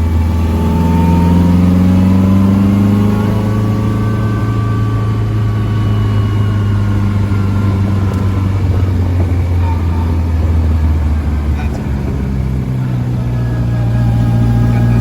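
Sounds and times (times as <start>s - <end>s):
road and wind noise: 0.0s - 15.0s
sports car engine cruising: 0.0s - 15.0s.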